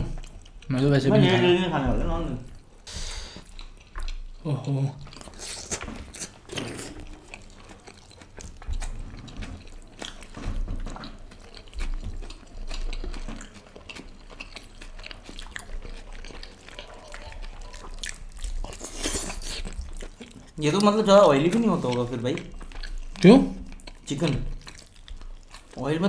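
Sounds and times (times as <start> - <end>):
chewing and lip-smacking: 0.0 - 0.9, 2.5 - 26.0.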